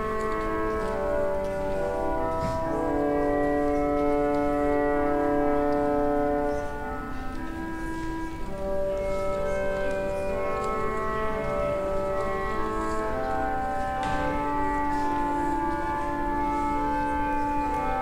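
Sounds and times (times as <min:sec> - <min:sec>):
organ playing held chords: 0:00.0 - 0:18.0.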